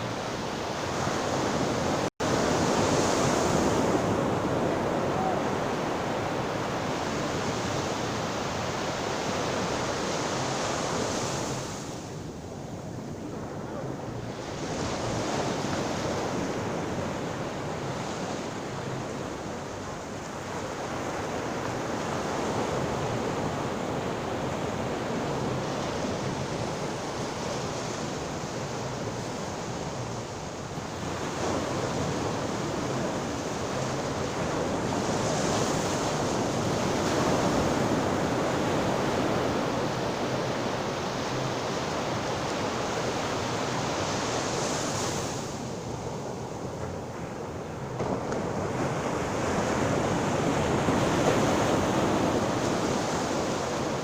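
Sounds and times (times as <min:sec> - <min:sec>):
ocean surf washing ashore: 0:00.0 - 0:54.0.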